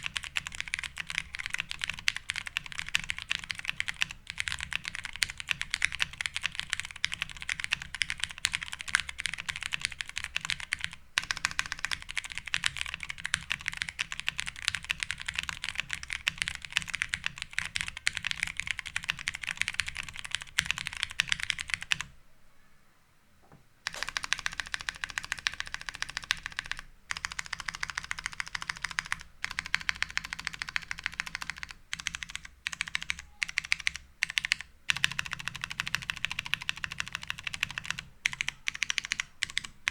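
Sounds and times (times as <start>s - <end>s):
mechanical keyboard typing: 0.0s - 22.1s, 23.9s - 39.9s.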